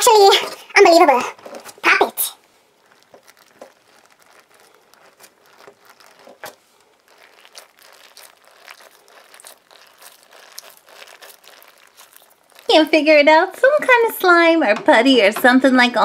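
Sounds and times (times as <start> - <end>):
stress ball crinkling: 0.0 - 14.3.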